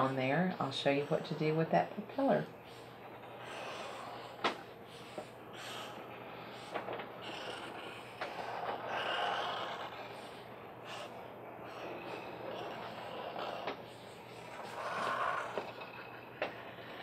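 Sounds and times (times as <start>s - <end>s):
marker scratching on paper: 0.0s - 16.9s.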